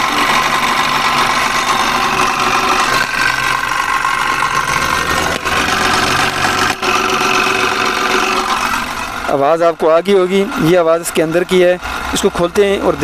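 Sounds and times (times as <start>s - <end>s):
car engine idling: 0.0s - 13.0s
high-pitched bearing whine: 0.0s - 13.0s.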